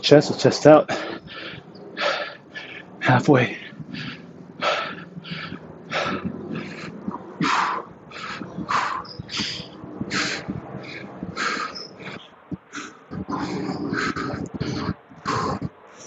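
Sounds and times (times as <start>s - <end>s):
man breathing heavily: 0.6s - 16.0s.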